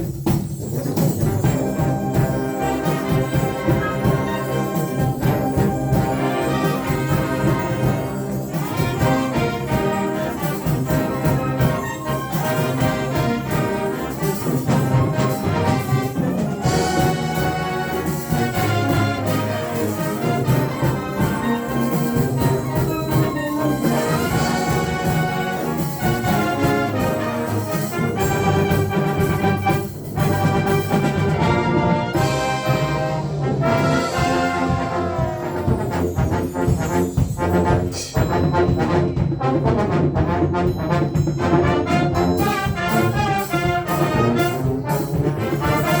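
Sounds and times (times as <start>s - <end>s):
symphonic band playing loudly: 0.0s - 46.0s
trombones and trumpets: 0.0s - 46.0s.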